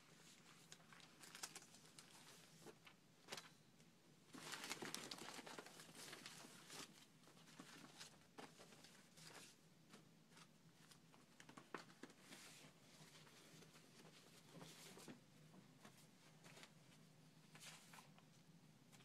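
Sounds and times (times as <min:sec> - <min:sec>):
paper rustling and crinkling: 0:00.1 - 0:03.5, 0:04.3 - 0:15.2, 0:15.8 - 0:18.3.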